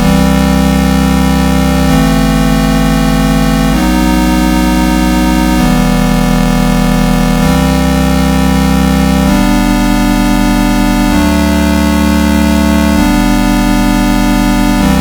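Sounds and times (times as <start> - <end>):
buzzy vocoded synthesizer chords: 0.0 - 15.0.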